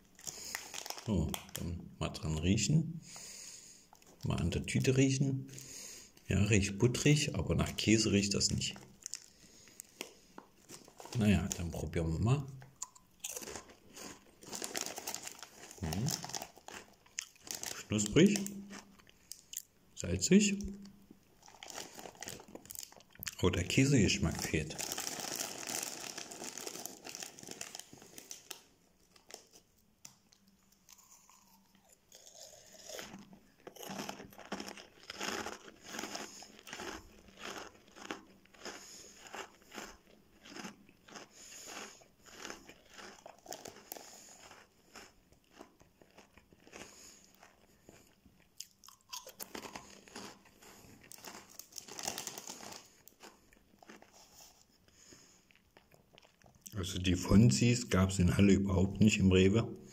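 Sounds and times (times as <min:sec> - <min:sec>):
crunching snack sticks: 0:00.0 - 0:01.8, 0:03.1 - 0:06.3, 0:07.0 - 0:19.7, 0:21.3 - 0:56.8.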